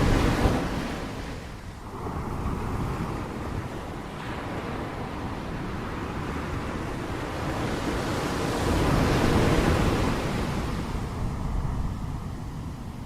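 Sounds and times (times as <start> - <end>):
ocean waves breaking on shore: 0.0 - 13.0
wind rumble on microphone: 0.0 - 13.0.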